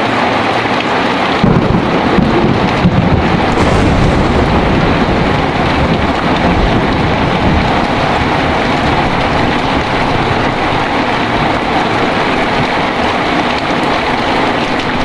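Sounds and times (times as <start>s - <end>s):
heavy rain: 0.0s - 15.0s
thunder rumbling: 1.2s - 15.0s.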